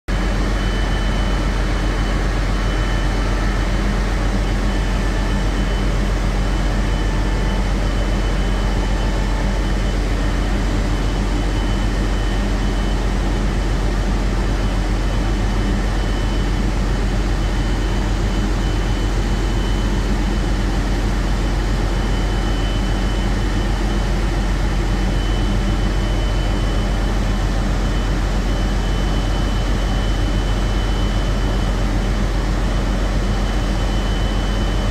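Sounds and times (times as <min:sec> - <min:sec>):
diesel machinery droning: 0:00.1 - 0:34.9
high whine: 0:00.1 - 0:34.9.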